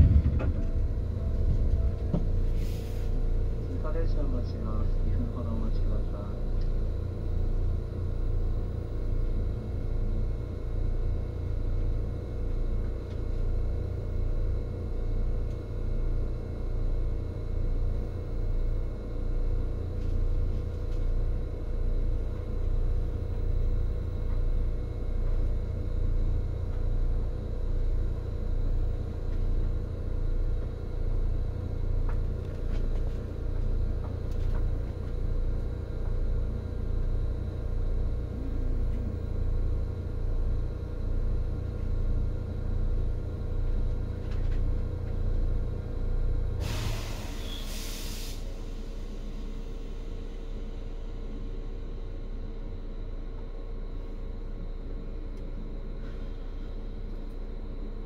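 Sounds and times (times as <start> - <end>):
train wheels rumbling on track: 0.0 - 17.2, 17.8 - 51.4
faint steady whine: 0.0 - 58.0.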